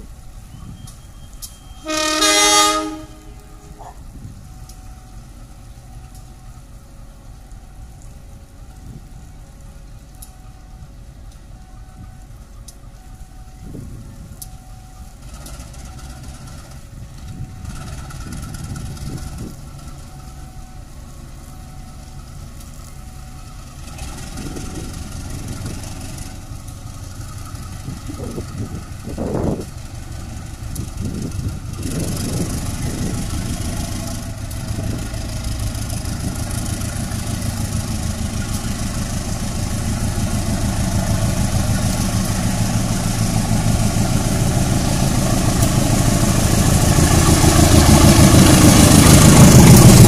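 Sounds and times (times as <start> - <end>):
diesel locomotive engine: 0.0 - 50.0.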